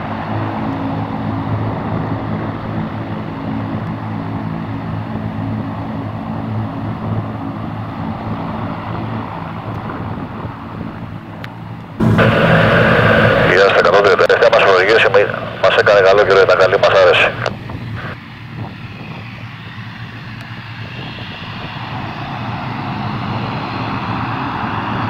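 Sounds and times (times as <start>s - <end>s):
turboprop plane engines droning: 0.0s - 25.0s.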